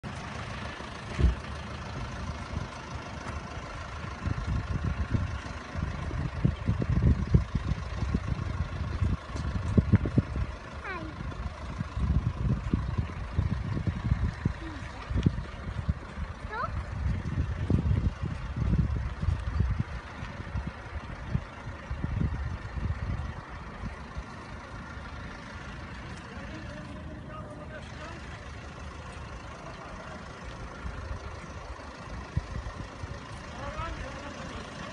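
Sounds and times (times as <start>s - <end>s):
heavy truck engine running: 0.0s - 34.9s.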